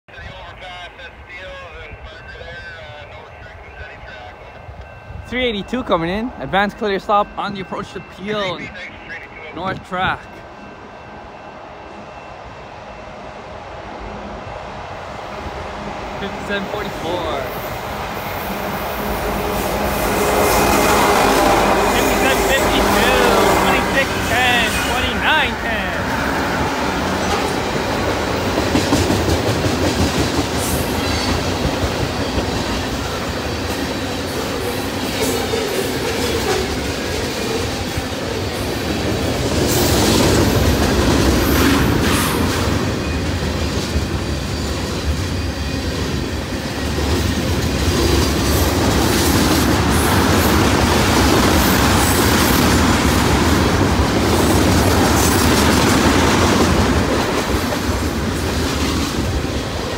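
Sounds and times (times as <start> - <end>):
train wheels rumbling on rails: 4.2 - 59.9.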